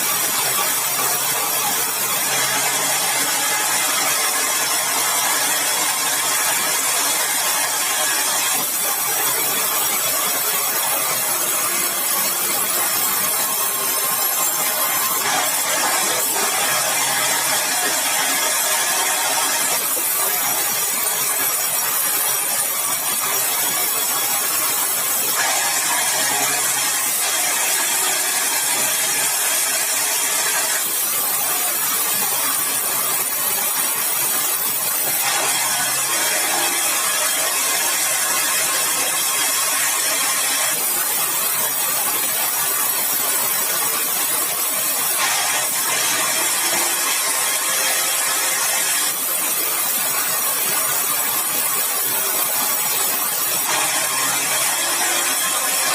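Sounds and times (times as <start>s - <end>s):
saw blade cutting timber: 0.0s - 55.9s.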